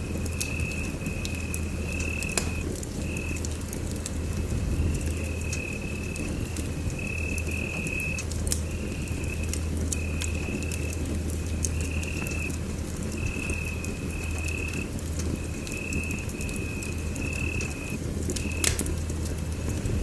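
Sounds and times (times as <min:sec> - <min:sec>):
wood fire crackling: 0:00.0 - 0:20.0
high whistle from fire: 0:00.1 - 0:03.4, 0:04.4 - 0:18.8.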